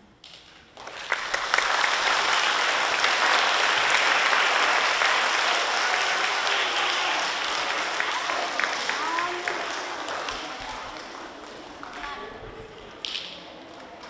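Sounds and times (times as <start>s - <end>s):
audience applauding: 0.7s - 12.2s.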